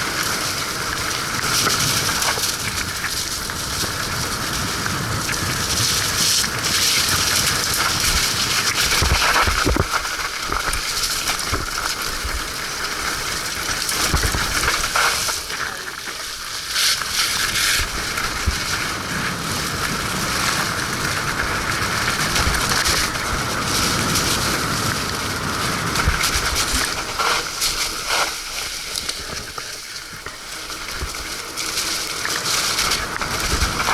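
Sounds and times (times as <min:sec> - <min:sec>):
bike tyres crunching in mud: 0:00.0 - 0:33.9.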